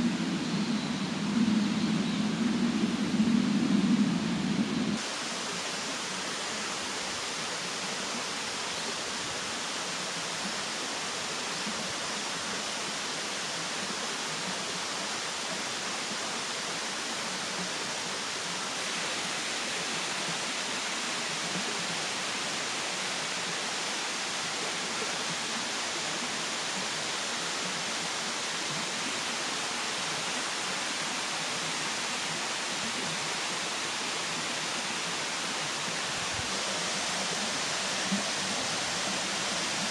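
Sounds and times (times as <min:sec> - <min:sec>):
steady rushing hiss: 0:00.0 - 0:39.9.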